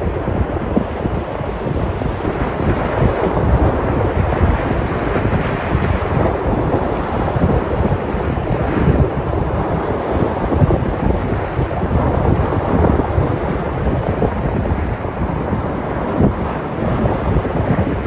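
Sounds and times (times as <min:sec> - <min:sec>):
sea surf breaking on shore: 0:00.0 - 0:18.0
wind buffeting microphone: 0:00.0 - 0:18.0.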